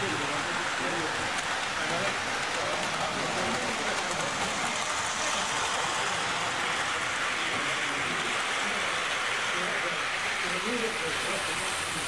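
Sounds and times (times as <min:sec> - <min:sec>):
model train wheels rattling: 0:00.2 - 0:12.0.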